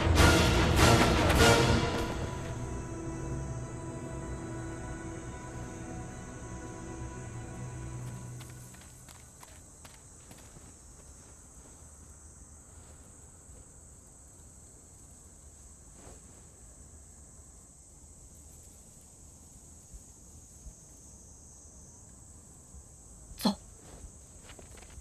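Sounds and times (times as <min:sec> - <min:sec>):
crickets chirring: 0:01.4 - 0:25.0.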